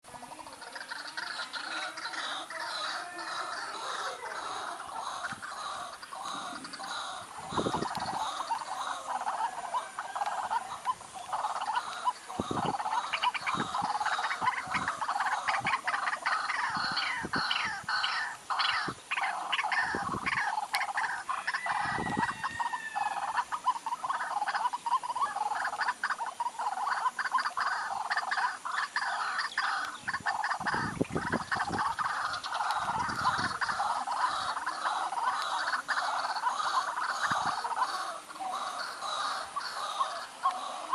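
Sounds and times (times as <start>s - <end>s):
animals croaking and chirping: 0.0s - 40.9s.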